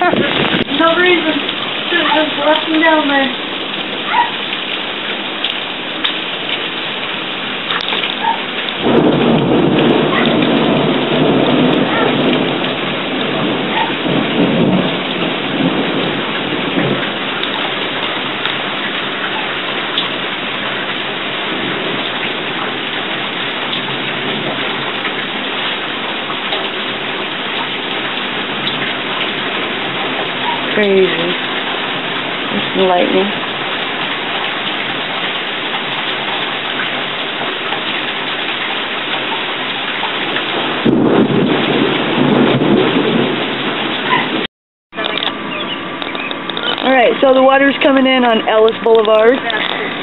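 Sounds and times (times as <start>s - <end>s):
heavy rain pouring on roofs: 0.0s - 50.0s
thunder rumbling: 0.0s - 50.0s.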